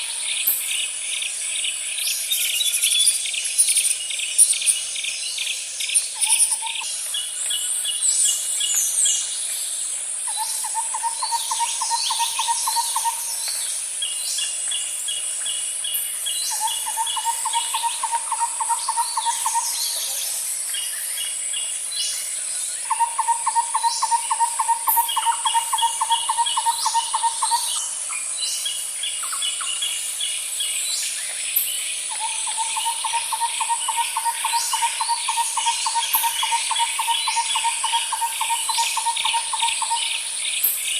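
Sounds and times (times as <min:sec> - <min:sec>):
high insect drone: 0:00.0 - 0:40.9
low pulsed insect trill: 0:00.0 - 0:40.9.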